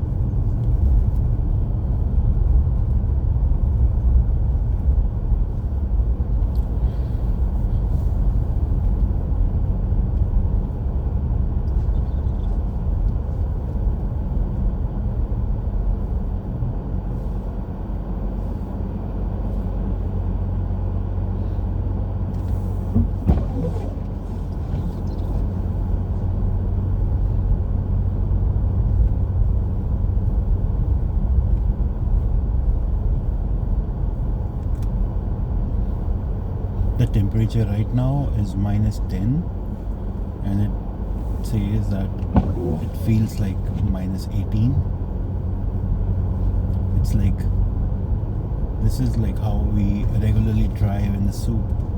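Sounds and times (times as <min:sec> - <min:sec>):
car driving on snowy road: 0:00.0 - 0:51.9.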